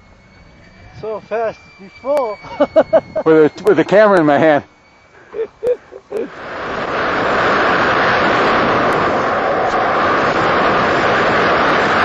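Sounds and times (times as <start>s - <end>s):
wind rushing over microphone: 0.0s - 4.7s, 5.6s - 12.0s.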